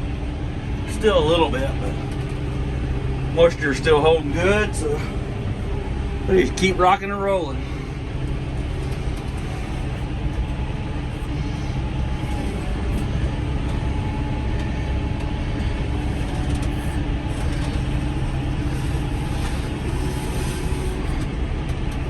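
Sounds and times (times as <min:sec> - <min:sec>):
baler machinery running: 0:00.0 - 0:22.0
tractor engine running under load: 0:00.0 - 0:22.0.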